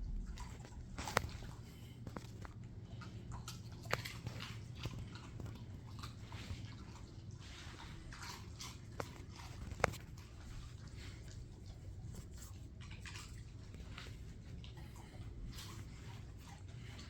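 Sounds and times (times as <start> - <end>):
dogs crunching treats: 0.0 - 17.0
steady low hum: 0.0 - 17.0.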